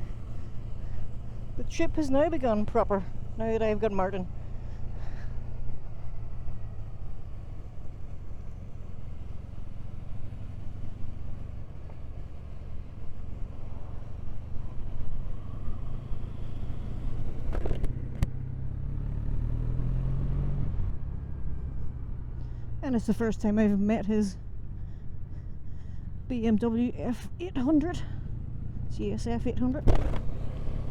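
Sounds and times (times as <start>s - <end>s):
motorcycle engine: 0.0s - 22.8s, 27.3s - 30.9s
road rumble: 0.0s - 30.9s
wind: 0.0s - 30.9s.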